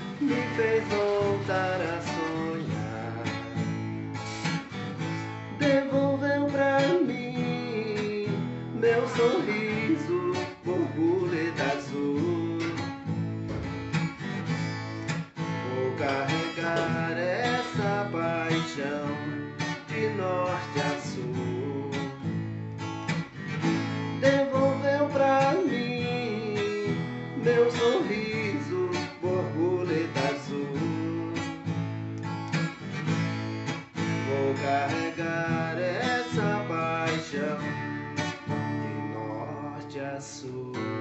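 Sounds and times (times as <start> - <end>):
acoustic guitar strumming and picking: 0.0 - 41.0.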